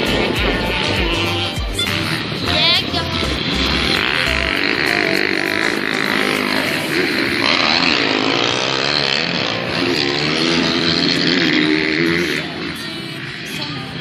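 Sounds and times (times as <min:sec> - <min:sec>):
racing engine revving: 0:00.0 - 0:13.6.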